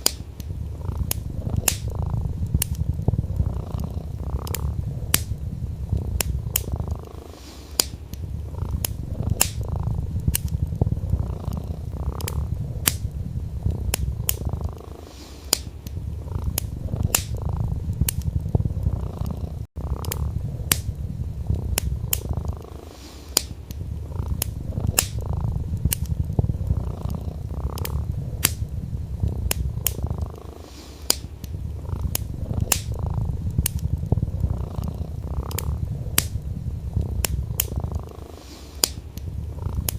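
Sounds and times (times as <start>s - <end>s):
cat purring: 0.0s - 39.9s
wood fire crackling and popping: 0.0s - 39.9s.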